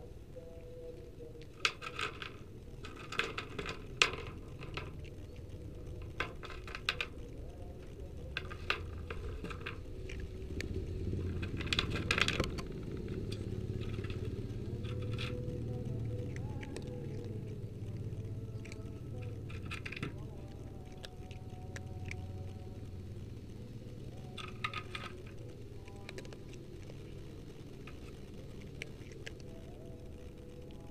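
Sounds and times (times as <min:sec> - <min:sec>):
cat crunching dry food: 0:00.0 - 0:30.9
low rumble: 0:00.0 - 0:30.9.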